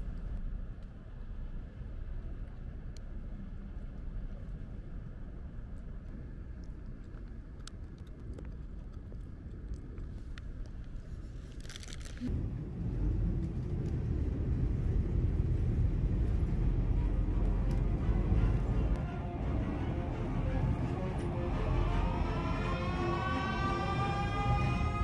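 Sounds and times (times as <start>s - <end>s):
bus engine and road noise: 0.0s - 8.3s, 9.2s - 25.0s
low outdoor rumble: 0.0s - 25.0s.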